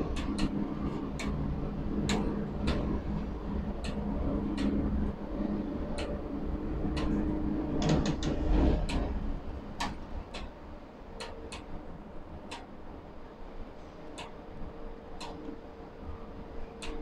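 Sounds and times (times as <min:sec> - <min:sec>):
crane hoist humming and rumbling: 0:00.0 - 0:17.0.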